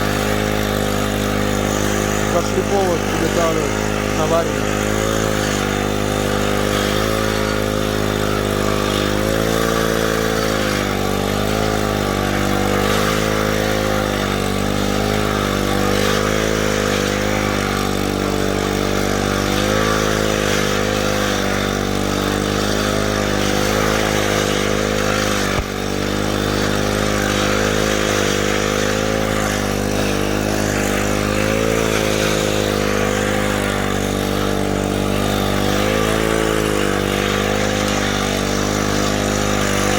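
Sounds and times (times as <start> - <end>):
machine engine running steadily: 0.0 - 39.9.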